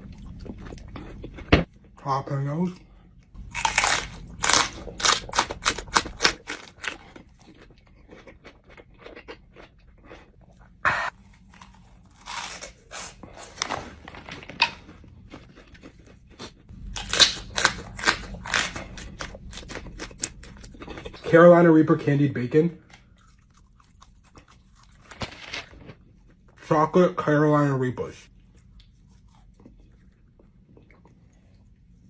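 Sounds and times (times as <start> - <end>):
person chewing crunchy food: 0.0 - 2.0, 3.1 - 21.6, 22.8 - 26.7, 28.3 - 32.0.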